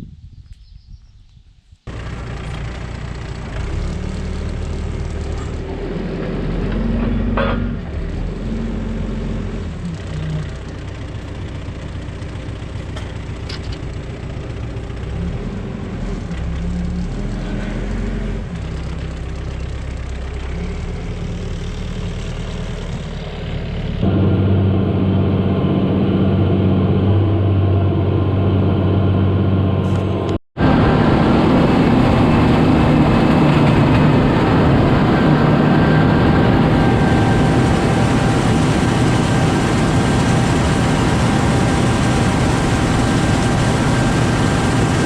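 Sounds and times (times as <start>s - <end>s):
tractor engine running: 1.9s - 45.0s.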